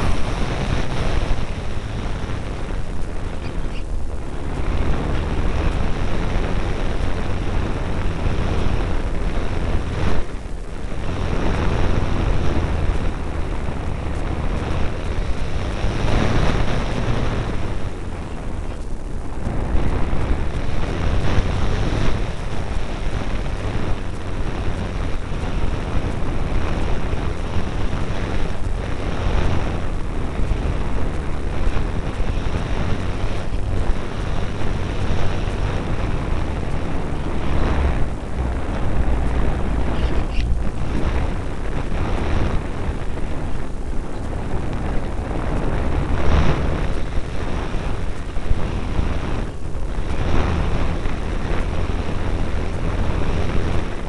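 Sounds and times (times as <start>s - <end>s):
model plane motor and propeller: 0.0s - 54.0s
wind rushing over microphone: 0.0s - 54.0s.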